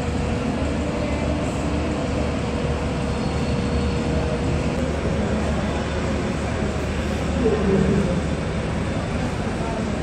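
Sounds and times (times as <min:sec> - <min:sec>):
aircraft engines rumbling: 0:00.0 - 0:10.0.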